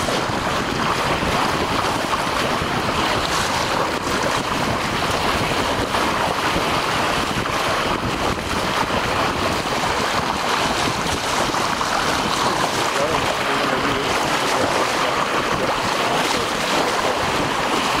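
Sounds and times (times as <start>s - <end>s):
water splashing along boat hull: 0.0s - 18.0s
wind buffeting microphone: 0.0s - 18.0s.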